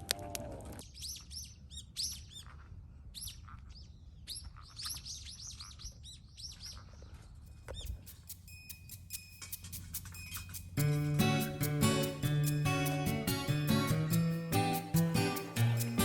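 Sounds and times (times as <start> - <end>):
small birds chirping: 0.8 - 16.0.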